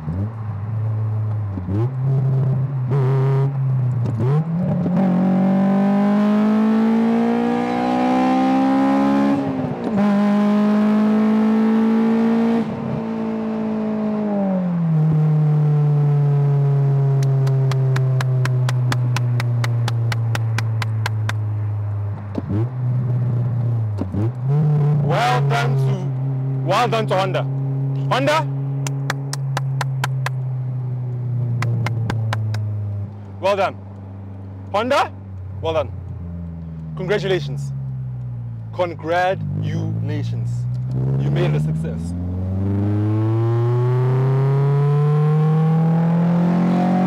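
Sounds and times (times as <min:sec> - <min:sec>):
car engine accelerating hard: 0:00.0 - 0:33.6, 0:36.0 - 0:47.0.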